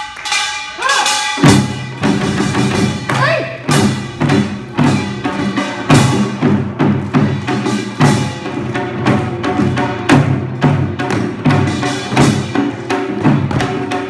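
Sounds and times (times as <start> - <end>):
drum strikes: 0.0 - 14.0.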